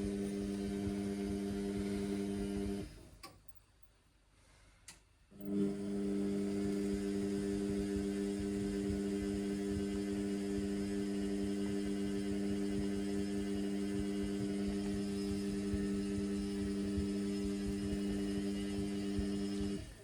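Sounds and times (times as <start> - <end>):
washing machine low rumble: 0.0 - 3.0, 5.4 - 20.0
drain pump electrical hum: 0.0 - 3.3, 5.3 - 20.0.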